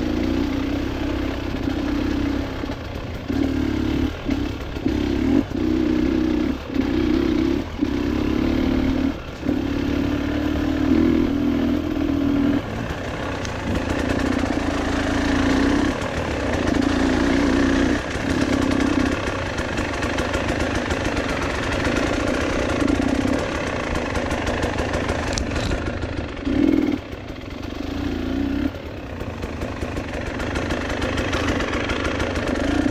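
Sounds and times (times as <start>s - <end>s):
vehicle engine revving: 0.0s - 32.9s.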